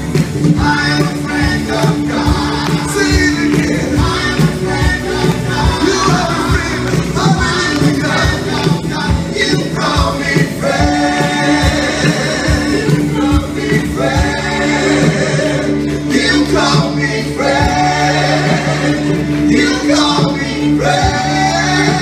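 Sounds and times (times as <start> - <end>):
guitars: 0.0 - 22.0
keyboard: 0.0 - 22.0
voices singing together: 0.0 - 22.0.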